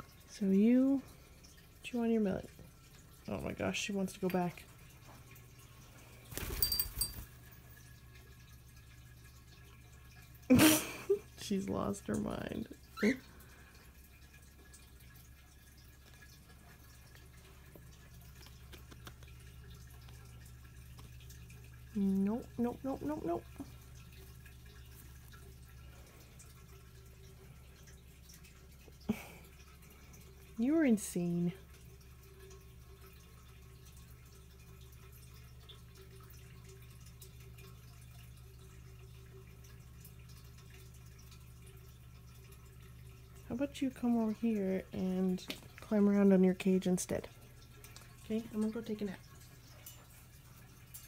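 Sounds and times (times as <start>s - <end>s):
low room hum: 0.0s - 51.0s
water trickling: 0.0s - 51.0s.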